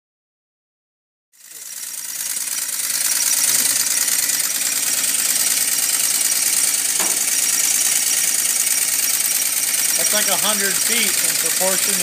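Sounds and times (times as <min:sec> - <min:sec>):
small engine running: 0:01.4 - 0:12.0
water pump hissing: 0:01.5 - 0:12.0.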